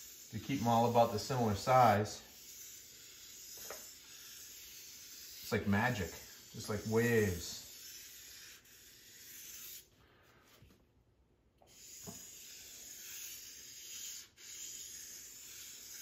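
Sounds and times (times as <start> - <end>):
marker scratching on board: 0.0 - 9.9, 11.7 - 16.0.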